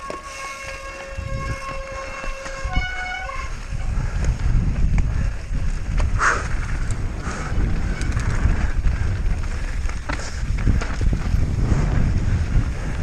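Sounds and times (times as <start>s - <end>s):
bike tyre rumble and wind noise: 0.0s - 13.0s.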